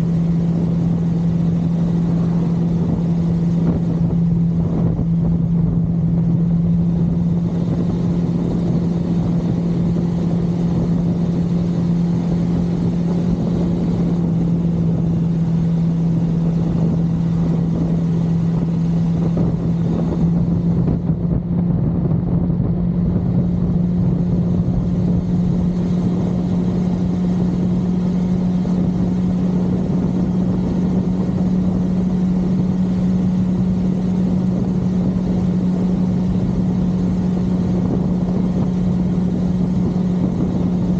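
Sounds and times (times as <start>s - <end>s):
constant rushing noise: 0.0s - 40.9s
motorcycle engine cruising: 0.0s - 40.9s.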